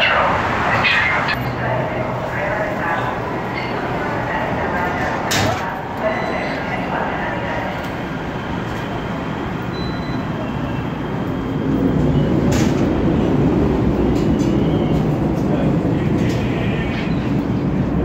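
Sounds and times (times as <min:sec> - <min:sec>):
light-rail train running: 0:00.0 - 0:18.0.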